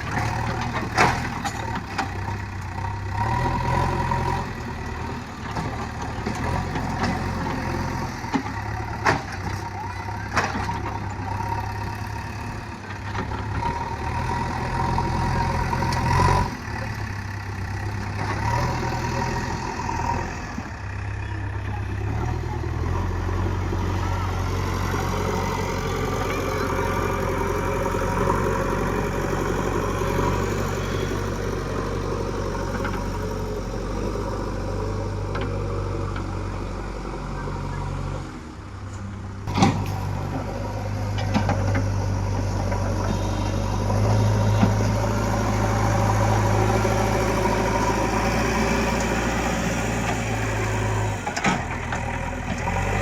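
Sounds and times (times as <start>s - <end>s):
digger diesel engine running: 0.0s - 53.0s.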